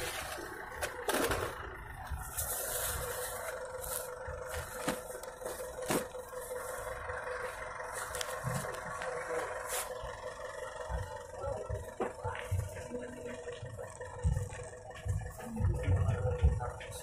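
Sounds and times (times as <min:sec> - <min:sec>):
bus engines idling: 0:00.0 - 0:17.0.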